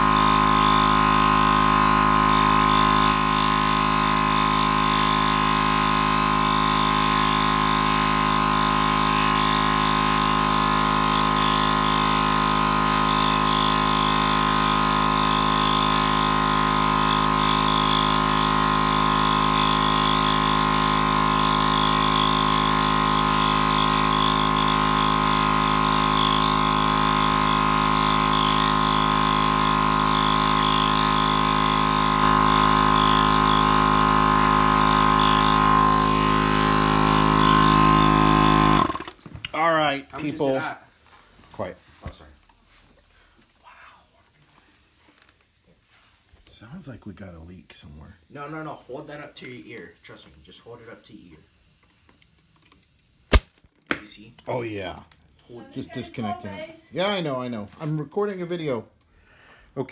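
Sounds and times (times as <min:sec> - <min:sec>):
air compressor running: 0:00.0 - 0:53.6.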